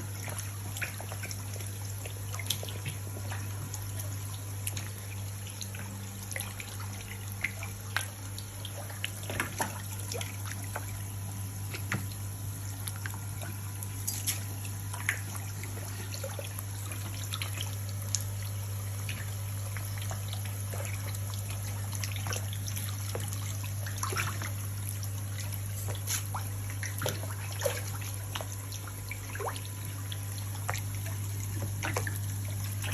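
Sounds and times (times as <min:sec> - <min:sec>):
small splashes: 0:00.0 - 0:32.9
steady low hum: 0:00.0 - 0:32.9
water trickling and dripping: 0:00.0 - 0:32.9.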